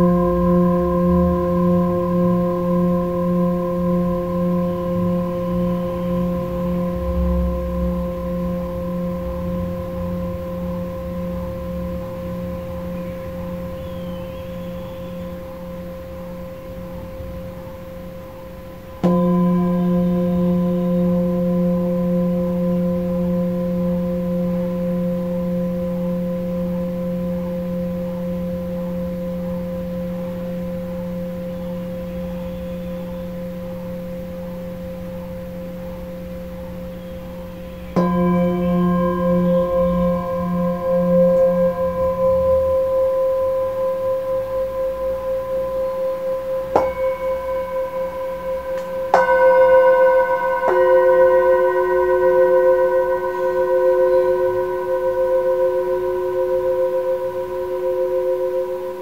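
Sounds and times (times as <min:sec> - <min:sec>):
singing bowl ringing: 0:00.0 - 0:59.0.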